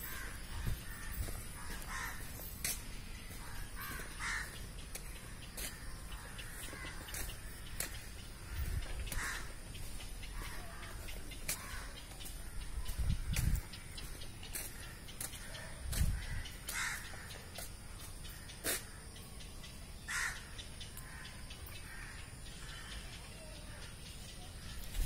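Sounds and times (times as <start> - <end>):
birds harsh calls: 0.0 - 25.0
outdoor background noise: 0.0 - 25.0.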